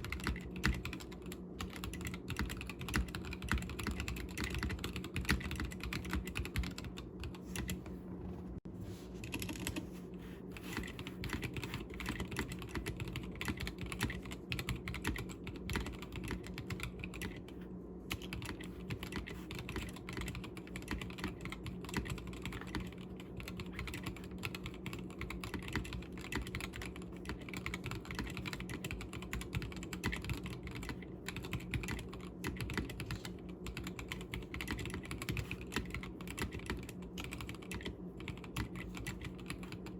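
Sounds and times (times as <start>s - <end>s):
mechanical keyboard typing: 0.0s - 7.8s, 9.2s - 9.8s, 10.6s - 39.9s.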